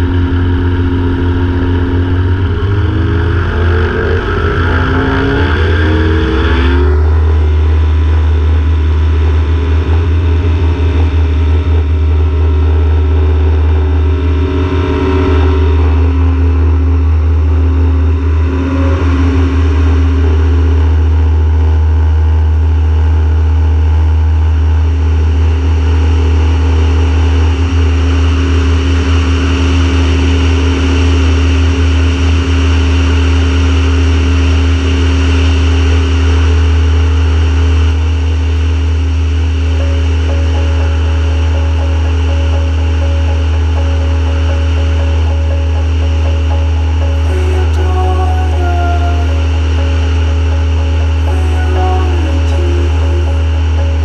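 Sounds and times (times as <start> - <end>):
aircraft engine and propeller: 0.0 - 47.4.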